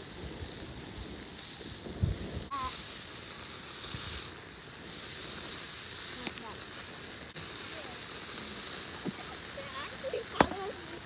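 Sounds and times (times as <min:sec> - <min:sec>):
seafood sizzling in hot pan: 0:00.0 - 0:11.0.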